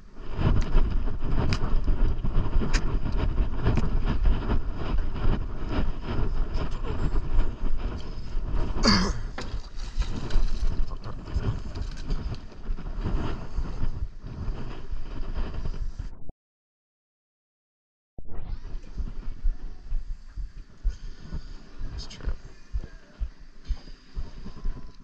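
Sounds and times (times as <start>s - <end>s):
wind buffeting microphone: 0.0s - 16.2s, 18.3s - 25.0s
heavy low rumble: 0.0s - 16.3s, 18.2s - 25.0s.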